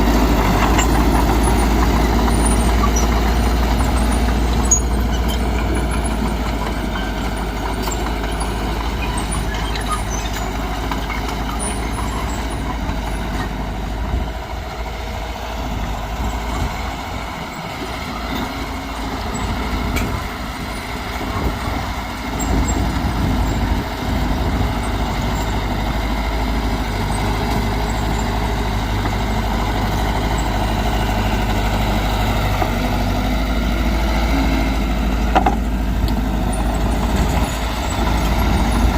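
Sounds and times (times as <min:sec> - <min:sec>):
diesel machinery rumbling: 0:00.0 - 0:38.9.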